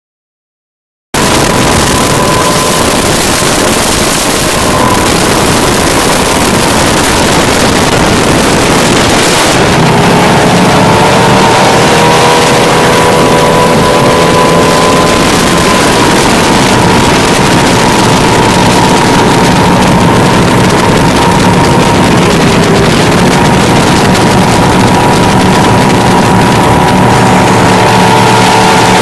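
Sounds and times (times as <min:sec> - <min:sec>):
speedboat engine droning: 0:01.2 - 0:29.0
wind and water rushing: 0:01.2 - 0:29.0.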